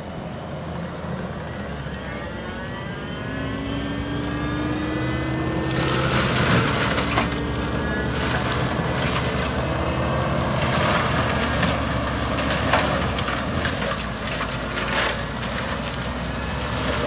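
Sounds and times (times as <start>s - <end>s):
diesel engine under load: 0.0s - 17.0s
mulcher grinding wood: 0.0s - 17.0s
wood crackling and splintering: 0.0s - 17.0s.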